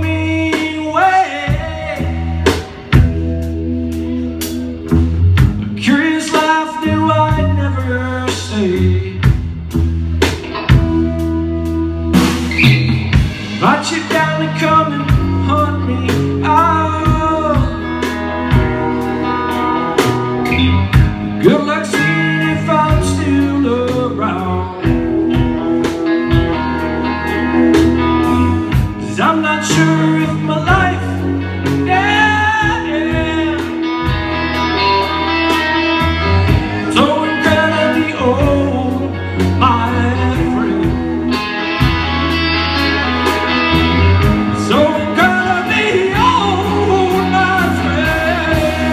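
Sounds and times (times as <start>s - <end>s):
person singing lead vocal: 0.0s - 4.8s, 5.6s - 9.6s, 13.2s - 41.8s, 43.7s - 48.9s
drum kit: 0.0s - 48.9s
electric guitars: 0.0s - 48.9s.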